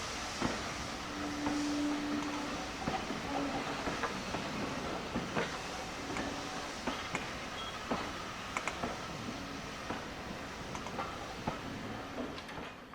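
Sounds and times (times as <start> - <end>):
train rumbling: 0.0 - 12.9
train wheels clicking and knocking: 0.2 - 12.9.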